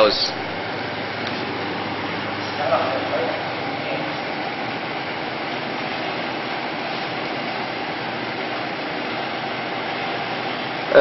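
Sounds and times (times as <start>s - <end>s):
steady factory rushing noise: 0.0s - 11.0s.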